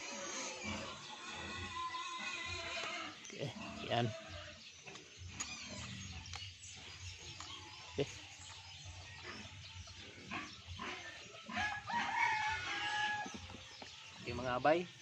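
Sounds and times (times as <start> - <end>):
faint farm animal calls: 0.0 - 15.0.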